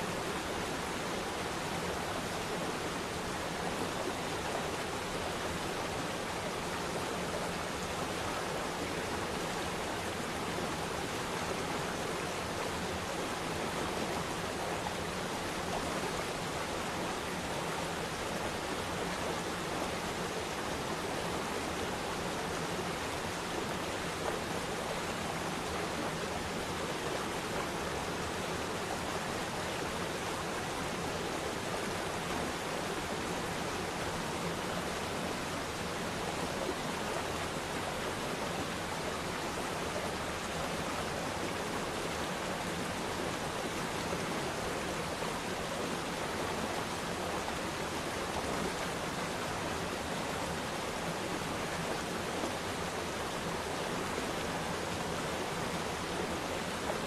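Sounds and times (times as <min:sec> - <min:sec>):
rush of running water: 0:00.0 - 0:57.0.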